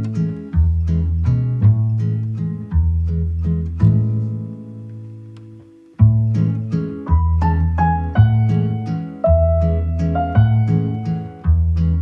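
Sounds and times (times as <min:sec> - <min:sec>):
low bass line: 0:00.0 - 0:12.0
plucked string music: 0:00.0 - 0:12.0.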